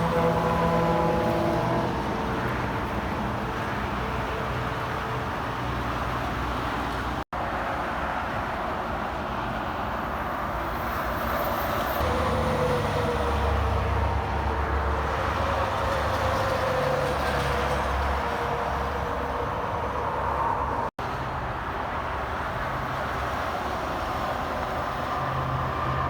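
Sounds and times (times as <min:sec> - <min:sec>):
traffic tyre roar: 0:00.0 - 0:26.0
trucks engine hum: 0:00.0 - 0:26.0.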